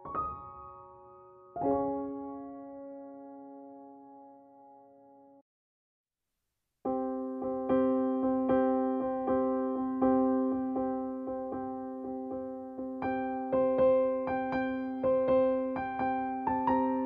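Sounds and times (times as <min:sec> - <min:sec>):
background piano music: 0:00.0 - 0:05.4, 0:06.9 - 0:17.0.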